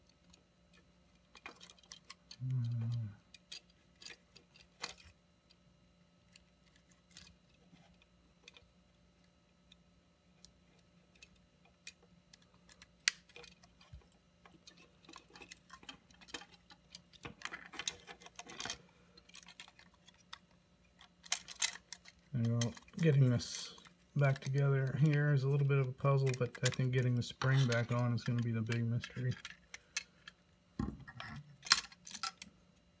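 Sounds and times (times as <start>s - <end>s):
plastic parts clicking: 0.0s - 5.6s, 10.4s - 32.5s.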